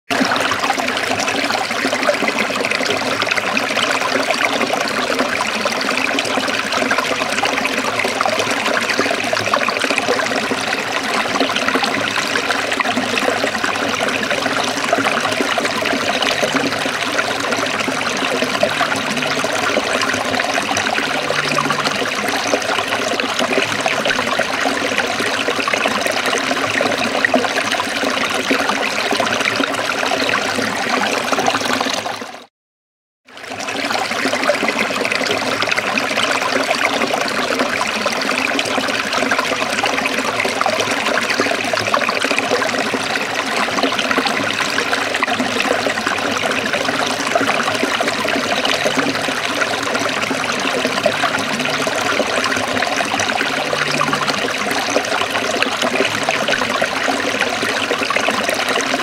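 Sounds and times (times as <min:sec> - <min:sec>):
stream running over rocks: 0:00.1 - 0:32.5, 0:33.4 - 0:59.0.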